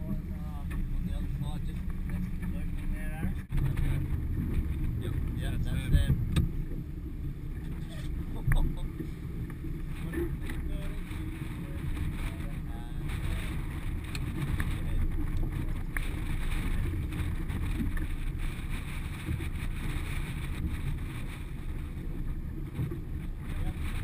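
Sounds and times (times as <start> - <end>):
water slapping boat hull: 0.0 - 24.0
wind buffeting microphone: 0.0 - 24.0.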